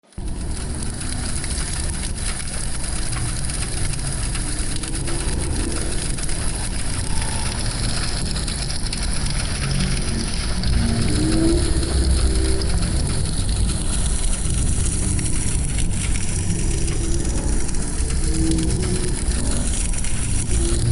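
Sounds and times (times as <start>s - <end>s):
fire crackling and rumbling: 0.1s - 20.9s.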